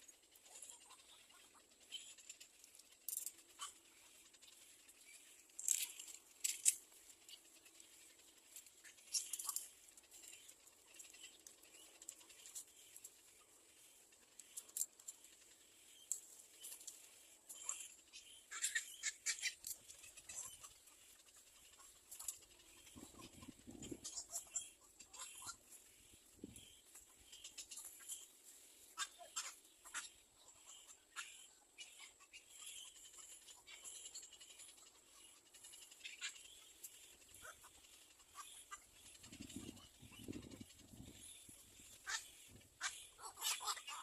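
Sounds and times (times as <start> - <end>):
faint rustles and scratches: 0.0 - 44.0.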